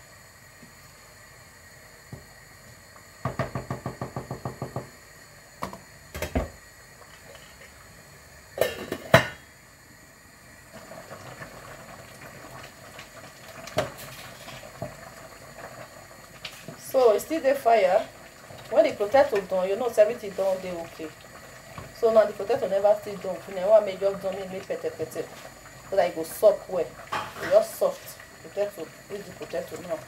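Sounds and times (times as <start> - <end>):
faint pot simmering: 0.0 - 30.0.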